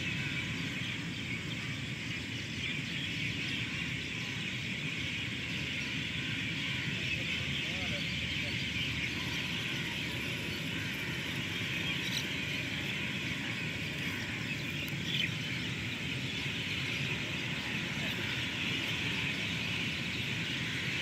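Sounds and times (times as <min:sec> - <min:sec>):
high chirping chorus: 0:00.0 - 0:21.0.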